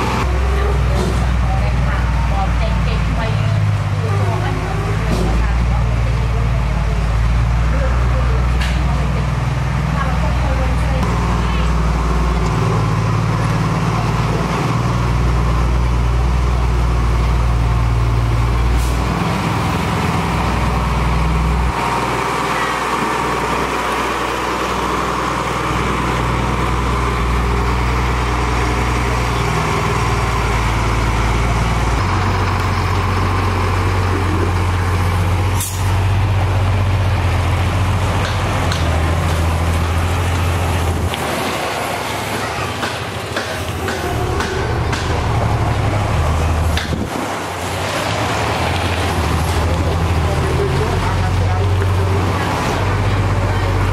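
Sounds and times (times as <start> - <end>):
heavy machinery engine drone: 0.0 - 53.9.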